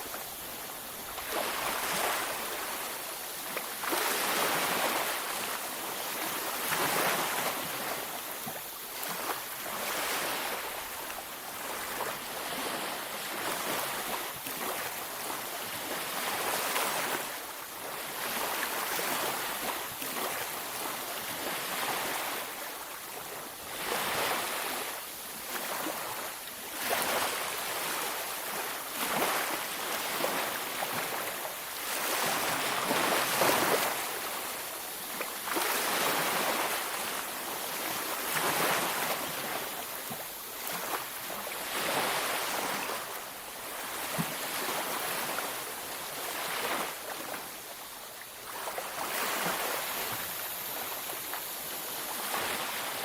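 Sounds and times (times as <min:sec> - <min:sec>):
sea waves breaking on beach: 0:00.0 - 0:53.0.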